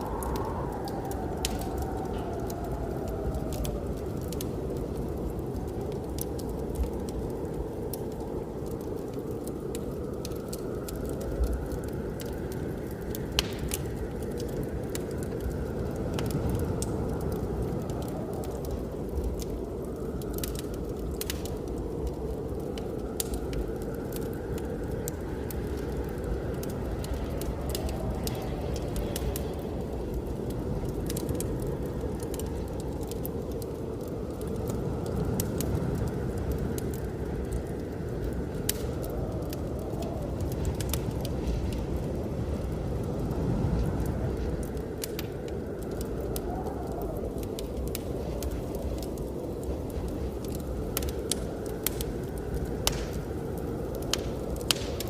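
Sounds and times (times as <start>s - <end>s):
blizzard wind gusting: 0.0s - 55.0s
wood fire crackling and popping: 0.0s - 55.0s.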